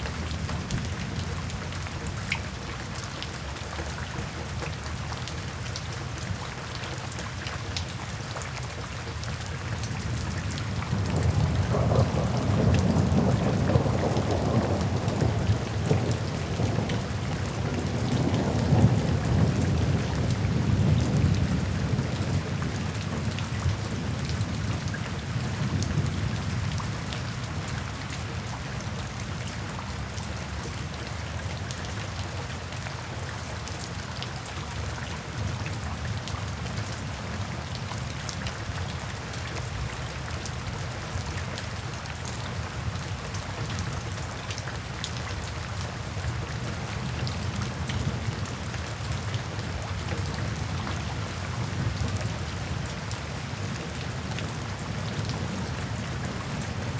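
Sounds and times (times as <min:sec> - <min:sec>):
rain drumming on a tin roof: 0:00.0 - 0:56.9.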